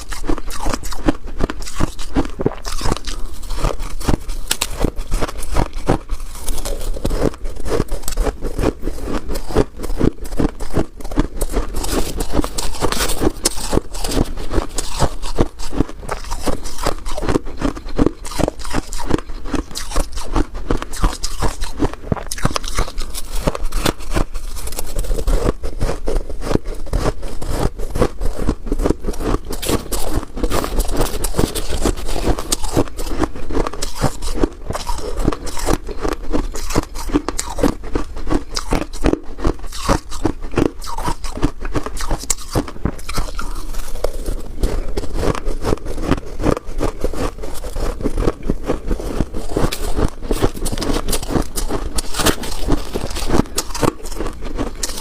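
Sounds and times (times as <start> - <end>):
freezer frost scraping and crunching: 0.0 - 55.0.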